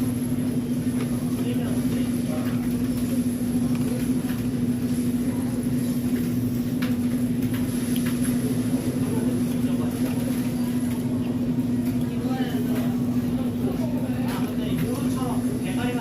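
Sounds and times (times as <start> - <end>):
steady hum with constant tone: 0.0 - 16.0.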